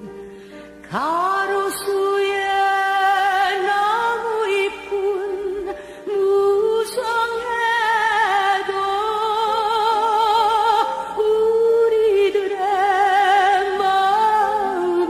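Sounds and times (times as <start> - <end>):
slow melody with heavy vibrato: 0.0 - 15.0.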